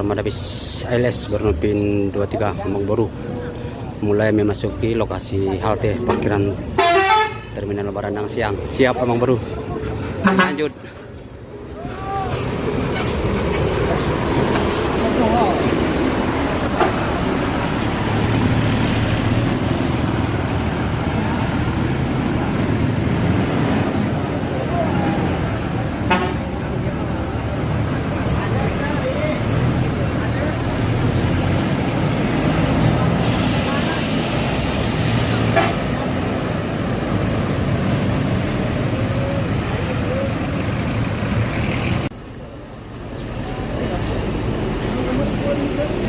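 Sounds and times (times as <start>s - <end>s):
traffic noise: 0.0s - 46.0s
bus engine running: 8.4s - 46.0s.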